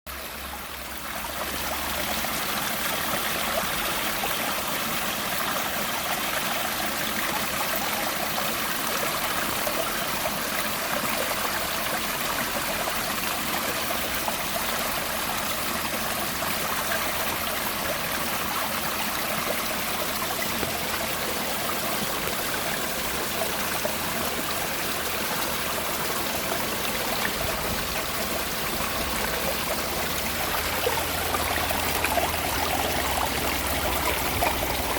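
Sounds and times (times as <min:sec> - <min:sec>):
mountain stream flowing: 0:00.1 - 0:34.9.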